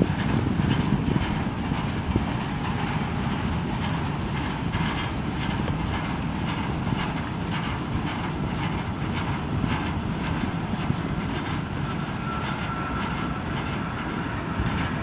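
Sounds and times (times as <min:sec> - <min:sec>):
light clicks of train wheels: 0:00.0 - 0:15.0
train wheels rumbling on rail: 0:00.0 - 0:15.0.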